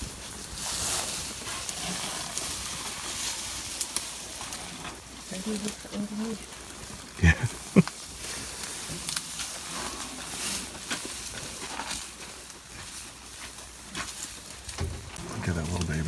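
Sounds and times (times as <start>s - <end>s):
rustling and crackling of dry grass: 0.0s - 16.0s.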